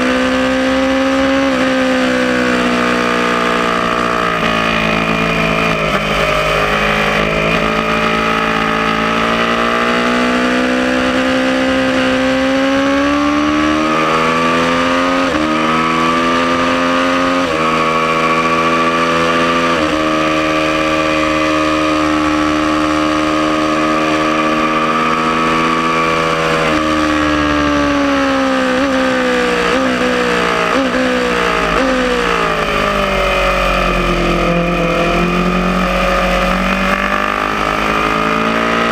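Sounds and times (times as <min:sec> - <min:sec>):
motorcycle engine accelerating hard: 0:00.0 - 0:38.9.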